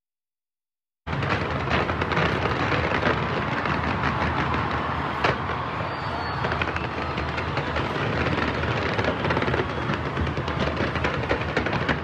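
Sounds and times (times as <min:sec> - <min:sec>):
fireworks crackling: 0:01.1 - 0:12.0.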